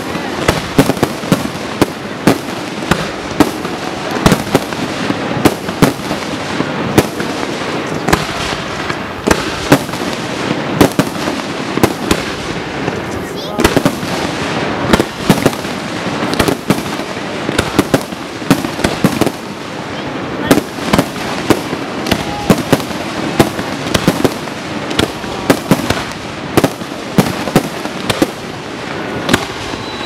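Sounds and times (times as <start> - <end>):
fireworks bangs: 0.0 - 30.0
fireworks crackling: 0.0 - 30.0.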